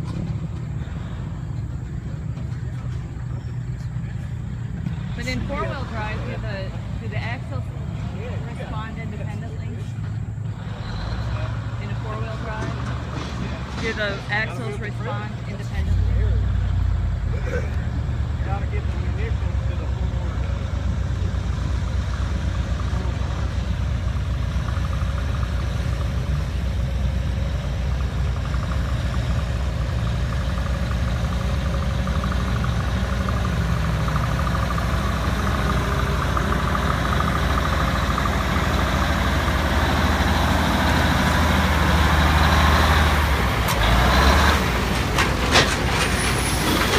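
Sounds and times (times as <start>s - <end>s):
truck engine droning: 0.0s - 46.9s.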